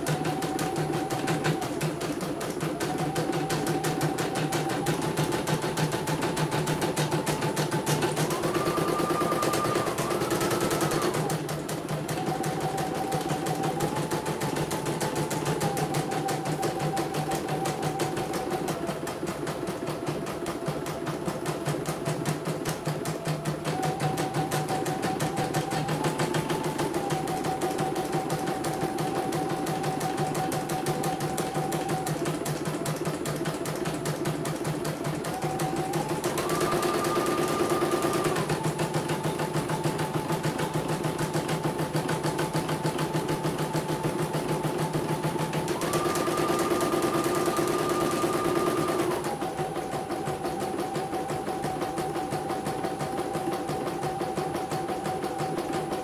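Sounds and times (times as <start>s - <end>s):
machine motor whine: 0.0s - 56.0s.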